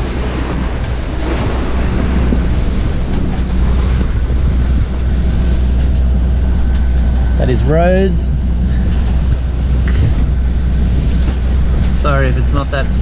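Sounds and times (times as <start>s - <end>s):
steady low rumble: 0.0s - 13.0s
waves rushing along hull: 0.0s - 13.0s
wind buffeting microphone: 0.0s - 13.0s.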